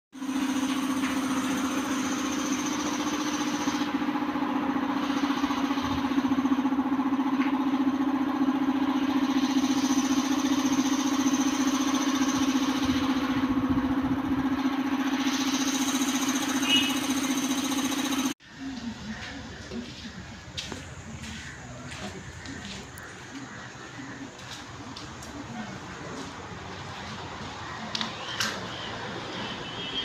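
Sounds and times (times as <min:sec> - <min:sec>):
engine idling: 0:00.2 - 0:30.0.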